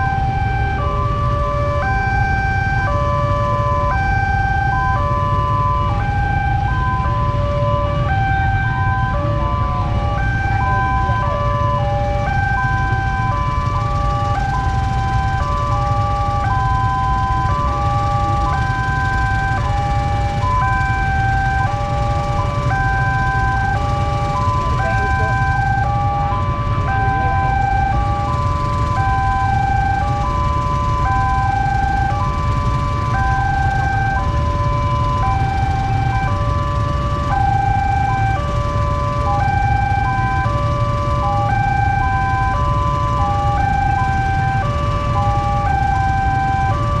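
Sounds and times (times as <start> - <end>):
idling traffic rumble: 0.0 - 47.0
level crossing alarm tones: 0.0 - 47.0.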